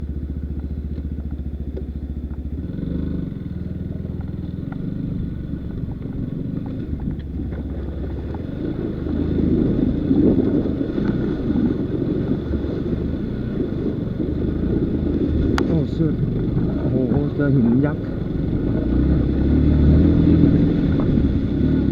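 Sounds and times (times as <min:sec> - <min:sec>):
dirt bike engine running: 0:00.0 - 0:21.9.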